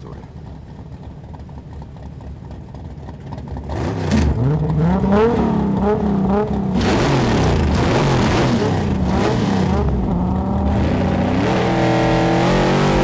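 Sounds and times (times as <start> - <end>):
car engines idling and revving: 0.0 - 13.0.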